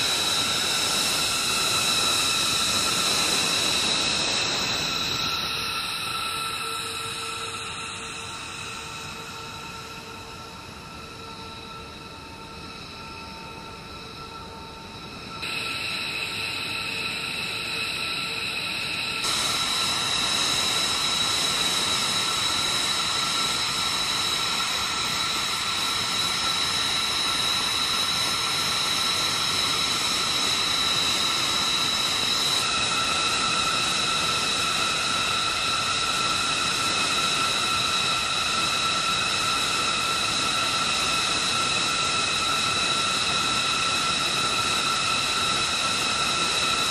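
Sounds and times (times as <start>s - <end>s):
jet engines idling with turbine whine: 0.0s - 46.9s.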